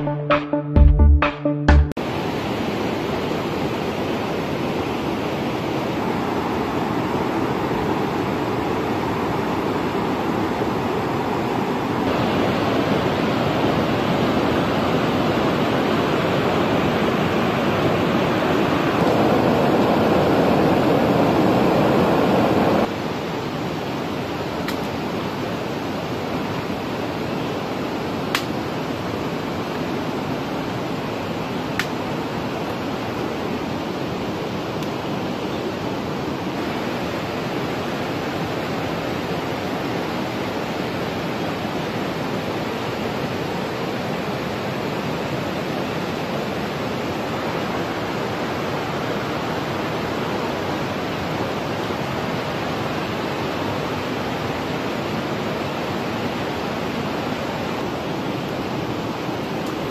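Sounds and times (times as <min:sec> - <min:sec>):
river rushing over rocks: 0:02.0 - 0:59.9.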